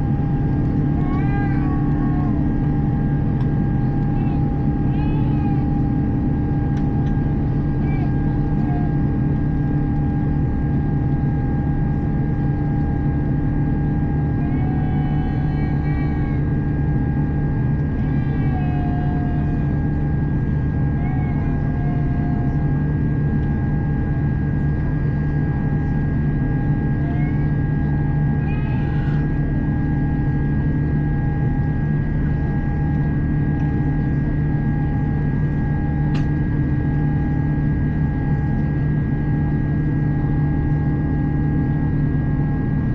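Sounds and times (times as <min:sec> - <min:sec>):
airplane cabin airflow and engines: 0:00.0 - 0:42.9
steady hums and whines: 0:00.0 - 0:42.9.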